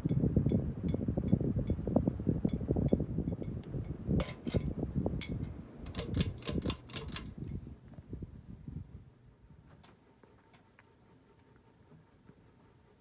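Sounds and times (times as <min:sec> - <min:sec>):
ceiling fan clicking and rattling: 0:00.0 - 0:13.0.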